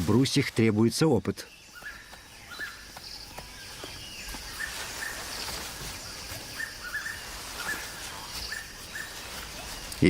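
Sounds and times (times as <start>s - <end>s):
insects hissing: 0.0s - 10.0s
bird calling: 1.4s - 10.0s.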